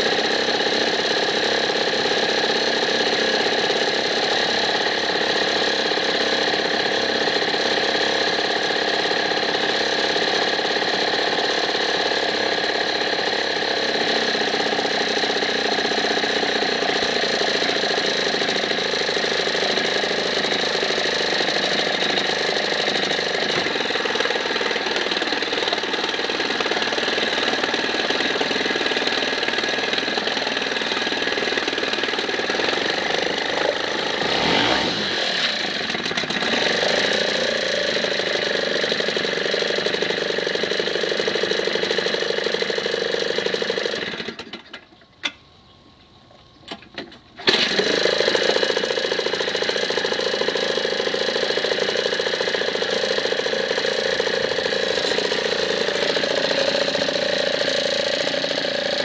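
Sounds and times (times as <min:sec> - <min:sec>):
outboard motor running: 0:00.0 - 0:45.4, 0:46.5 - 0:59.0.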